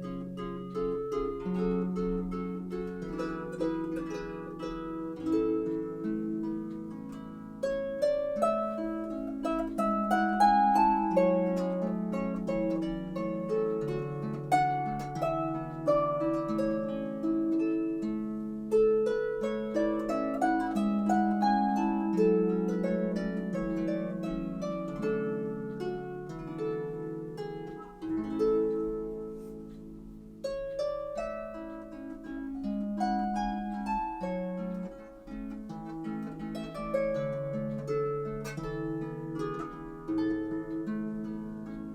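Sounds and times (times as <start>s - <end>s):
solo harp music: 0.0s - 41.9s.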